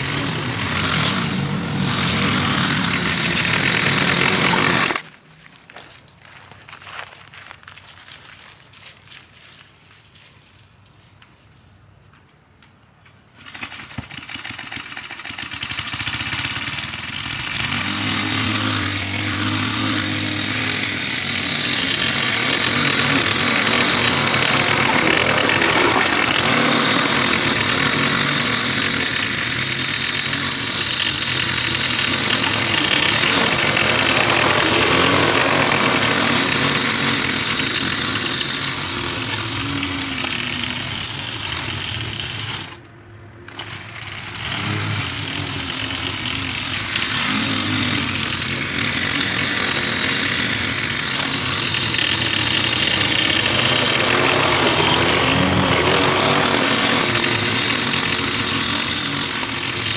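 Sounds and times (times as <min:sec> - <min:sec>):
lawn mower engine running: 0:00.0 - 0:05.3, 0:13.4 - 0:59.9.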